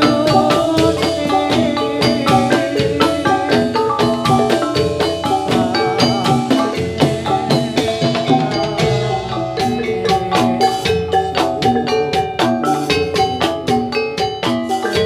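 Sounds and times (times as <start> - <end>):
metallophones struck: 0.0 - 15.0
percussion: 0.0 - 15.0.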